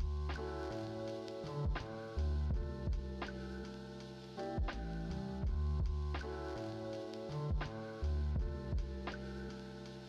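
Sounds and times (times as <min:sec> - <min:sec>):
instrumental music with deep bass: 0:00.0 - 0:10.0.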